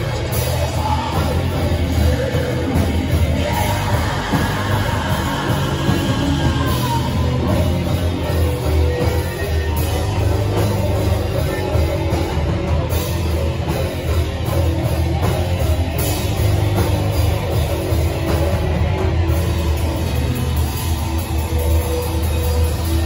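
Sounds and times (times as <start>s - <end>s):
bass guitar: 0.0s - 23.0s
distorted electric guitar: 0.0s - 23.0s
drum kit: 0.0s - 23.0s.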